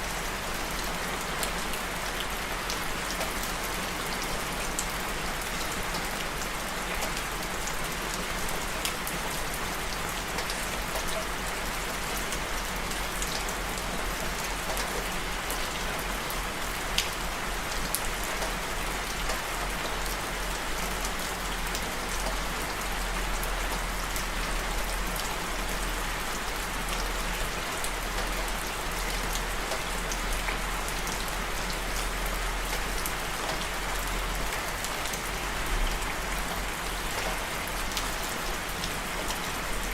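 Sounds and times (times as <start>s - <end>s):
steady rain hissing: 0.0s - 39.9s
raindrops ticking on a surface: 0.1s - 39.9s.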